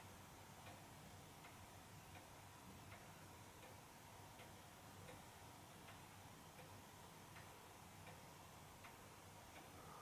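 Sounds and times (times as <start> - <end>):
wall clock ticking faintly: 0.0 - 10.0.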